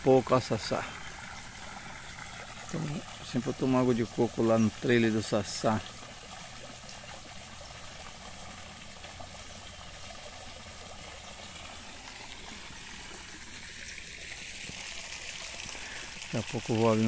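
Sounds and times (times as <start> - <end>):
water splashing into pond: 0.0 - 17.0.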